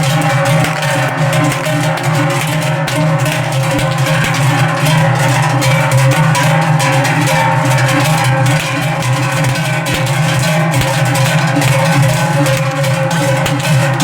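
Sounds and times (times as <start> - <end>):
background music with percussion: 0.0 - 14.0.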